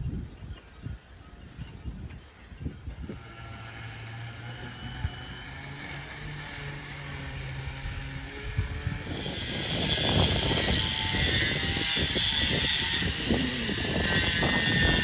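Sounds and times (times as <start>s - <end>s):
wind buffeting microphone: 0.0s - 15.0s
engine droning: 2.8s - 15.0s.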